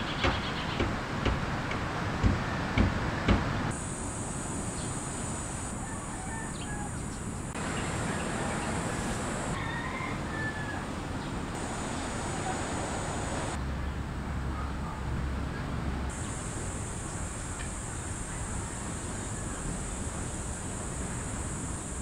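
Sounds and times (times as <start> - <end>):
steady background hiss: 0.0 - 13.7, 16.0 - 22.0.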